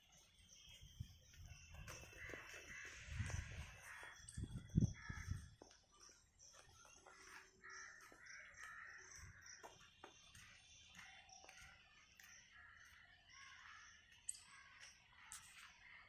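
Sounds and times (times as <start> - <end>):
crows cawing: 1.9 - 6.1, 6.8 - 16.0.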